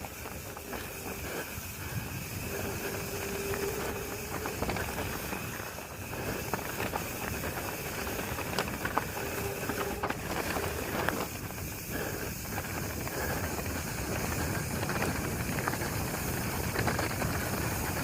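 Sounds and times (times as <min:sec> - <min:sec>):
bike clicks and rattles: 0:00.0 - 0:18.0
wind on microphone: 0:00.0 - 0:18.0.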